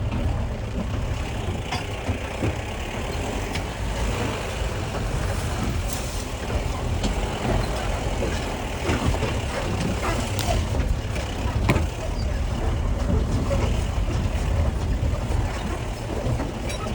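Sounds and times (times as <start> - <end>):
off-road vehicle engine rumble: 0.0 - 16.9.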